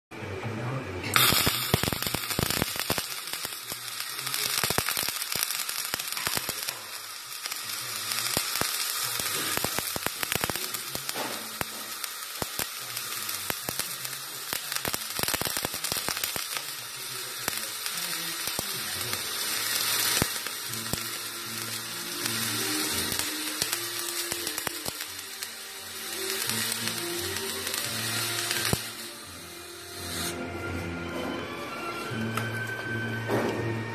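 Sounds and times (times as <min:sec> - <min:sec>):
welding arc crackling with pops: 0:01.1 - 0:30.4.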